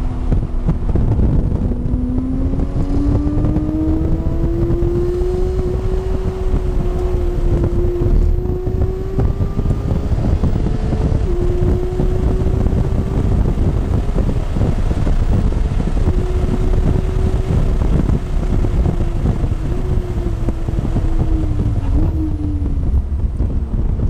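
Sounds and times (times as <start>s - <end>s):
car engine revving: 0.0s - 24.0s
wind and road noise: 0.0s - 24.0s.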